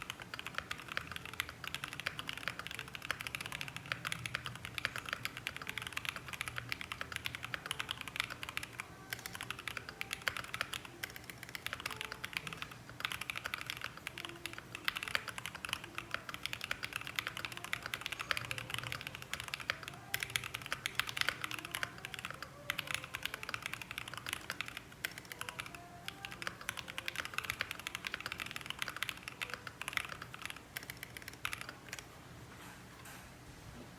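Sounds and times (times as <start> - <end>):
fast mechanical keyboard typing: 0.0 - 32.2.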